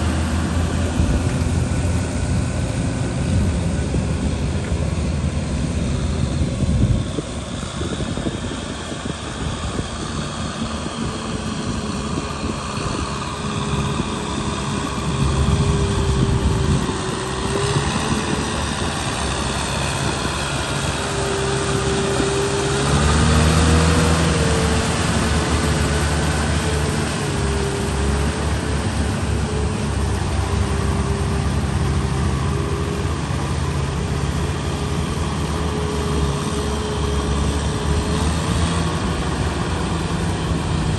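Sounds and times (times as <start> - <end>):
tractor engine under load: 0.0 - 40.9.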